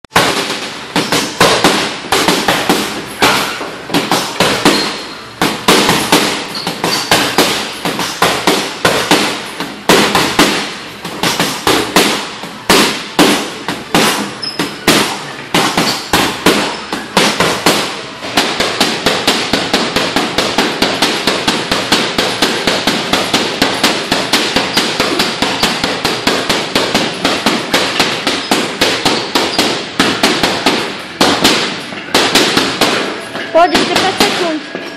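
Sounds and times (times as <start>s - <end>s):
punches hitting heavy bag: 0.2s - 34.7s.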